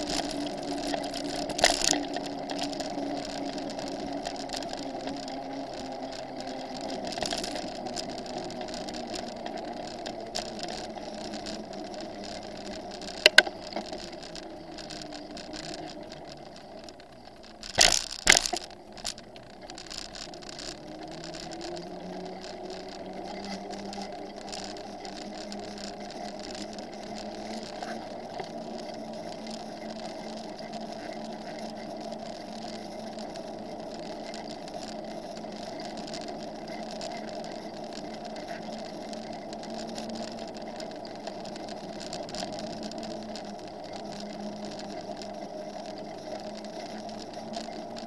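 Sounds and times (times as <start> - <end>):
bicycle knocks and rattles: 0.0 - 48.0
tyres and wind hum: 0.0 - 48.0.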